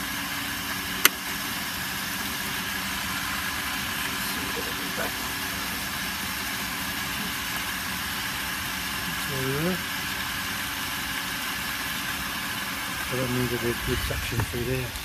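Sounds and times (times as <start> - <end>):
pump motor humming: 0.0 - 15.0
water flow hiss: 0.0 - 15.0.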